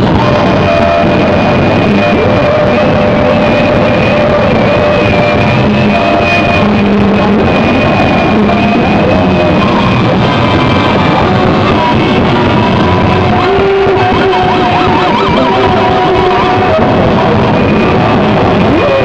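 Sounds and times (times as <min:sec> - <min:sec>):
distorted electric guitar noise: 0:00.0 - 0:19.0
high whine: 0:00.0 - 0:19.0.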